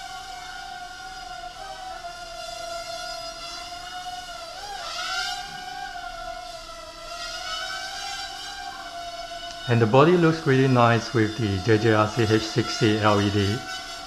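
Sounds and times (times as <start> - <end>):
quadcopter whine: 0.0 - 14.0.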